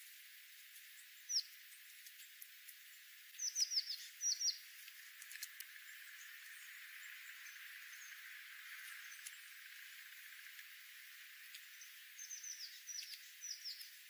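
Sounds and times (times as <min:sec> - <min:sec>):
small songbird chirping: 0:00.0 - 0:14.0
steady faint hiss: 0:00.0 - 0:14.0.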